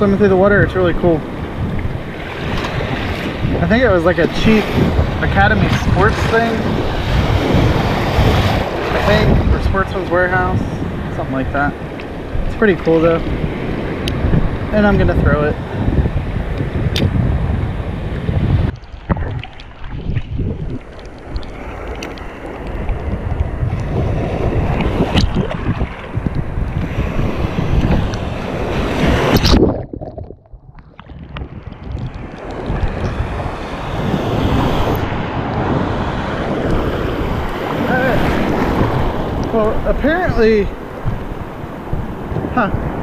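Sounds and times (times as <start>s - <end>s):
ocean surf breaking: 0.0s - 43.0s
wind buffeting microphone: 0.0s - 43.0s.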